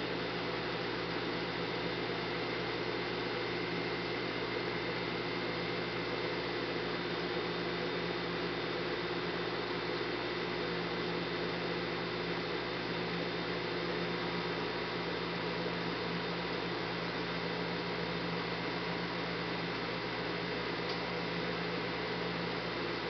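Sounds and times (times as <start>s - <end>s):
aquarium equipment humming: 0.0s - 23.0s.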